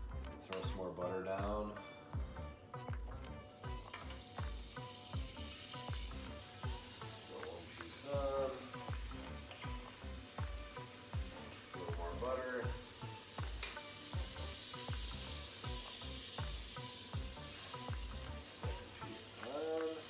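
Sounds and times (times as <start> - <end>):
background music with steady beat: 0.0 - 20.0
butter sizzling in a frying pan: 2.8 - 20.0.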